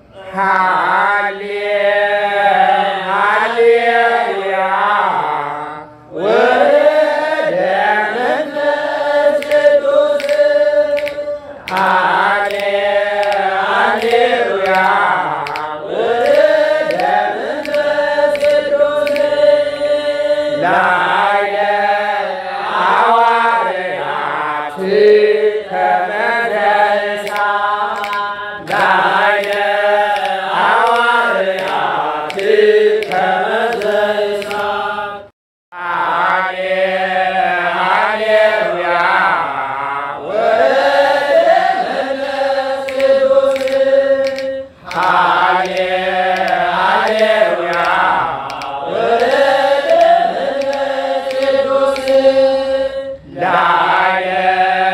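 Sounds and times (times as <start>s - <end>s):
chanted church hymn: 0.0s - 54.9s.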